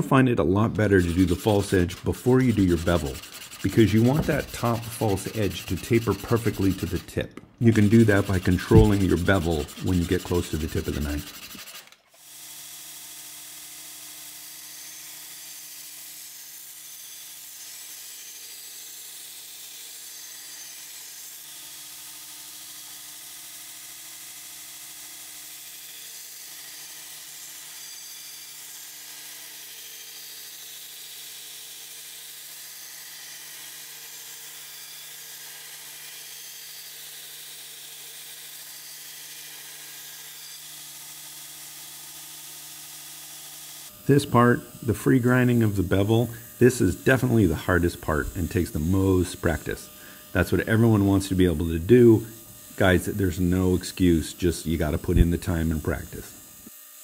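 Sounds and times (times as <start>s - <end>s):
belt grinder grinding knife blade: 0.7s - 57.0s.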